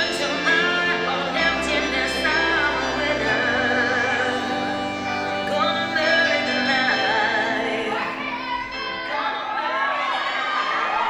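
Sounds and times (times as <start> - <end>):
woman singing with vibrato: 0.0 - 10.6
musical accompaniment: 0.0 - 11.0.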